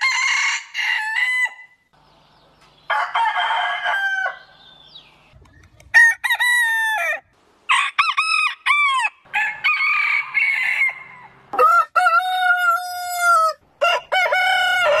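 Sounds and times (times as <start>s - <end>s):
roosters crowing: 0.0s - 1.8s, 2.8s - 4.9s, 6.0s - 15.0s.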